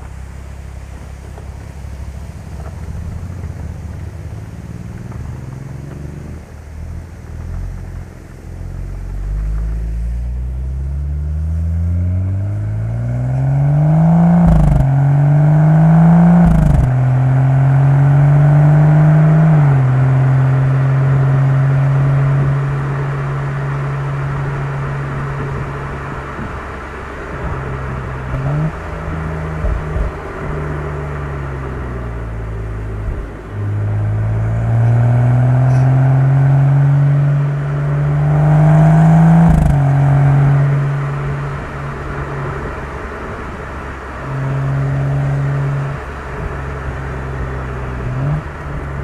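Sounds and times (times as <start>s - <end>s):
car engine accelerating hard: 0.0s - 49.0s.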